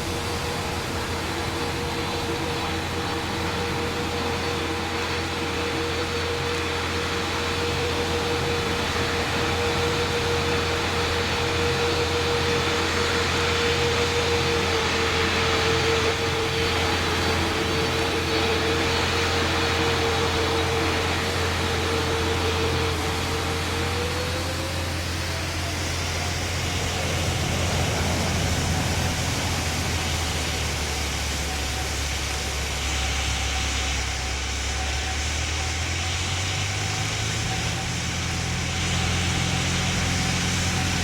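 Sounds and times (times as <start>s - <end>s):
aircraft engine hum: 0.0s - 41.0s.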